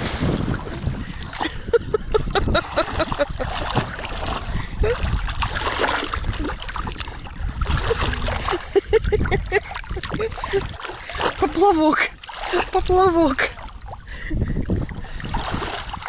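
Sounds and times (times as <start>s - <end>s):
water splashing in river: 0.0s - 16.0s.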